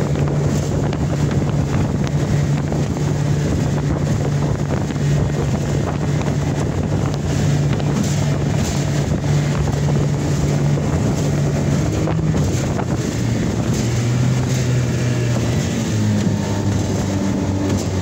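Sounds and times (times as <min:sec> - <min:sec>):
outboard motor running: 0:00.0 - 0:18.0
wind buffeting microphone: 0:00.0 - 0:18.0.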